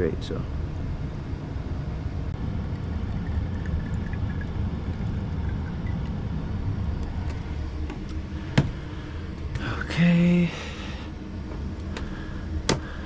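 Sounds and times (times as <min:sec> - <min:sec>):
air conditioner rumble: 0:00.0 - 0:13.0.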